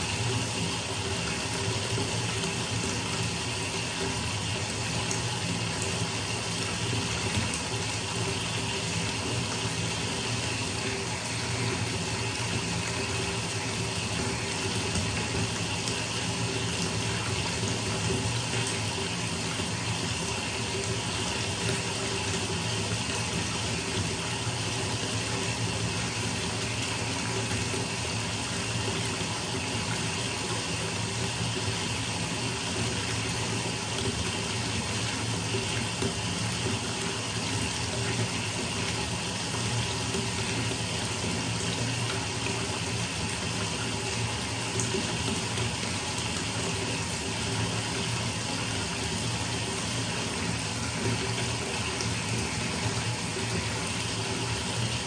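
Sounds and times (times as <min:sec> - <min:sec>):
water pouring into bathtub: 0:00.0 - 0:55.0.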